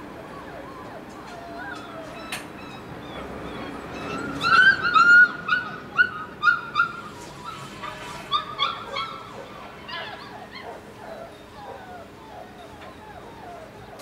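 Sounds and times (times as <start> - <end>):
dogs whining: 0.0 - 14.0.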